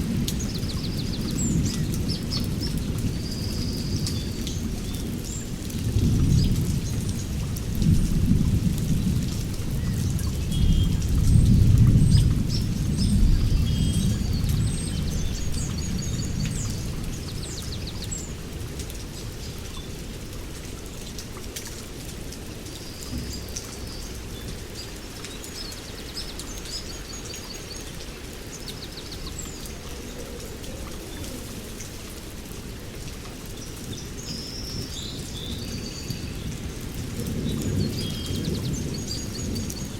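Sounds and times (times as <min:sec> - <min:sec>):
songbirds chirping: 0:00.0 - 0:07.4, 0:08.4 - 0:21.2, 0:22.4 - 0:39.9
steady rain: 0:00.0 - 0:39.9.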